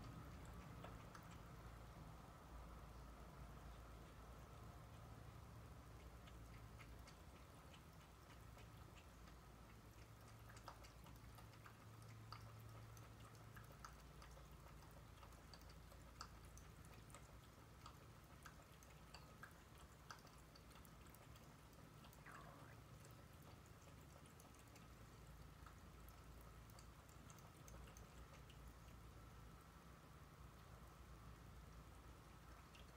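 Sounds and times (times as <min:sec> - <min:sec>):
cat lapping water: 0:00.0 - 0:32.9.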